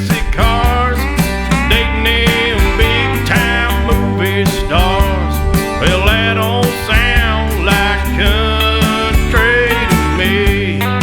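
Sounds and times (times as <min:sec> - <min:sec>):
country music with guitars: 0:00.0 - 0:11.0.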